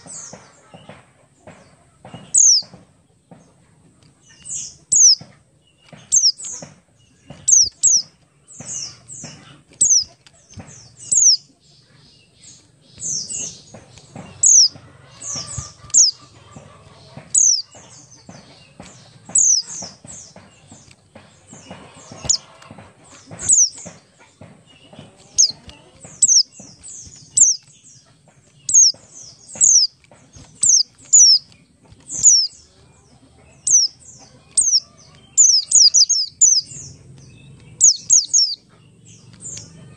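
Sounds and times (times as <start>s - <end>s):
wing flutters and hops in cage: 0.0s - 39.9s
bird singing high chirps: 2.2s - 2.8s, 4.2s - 22.6s, 23.2s - 39.9s.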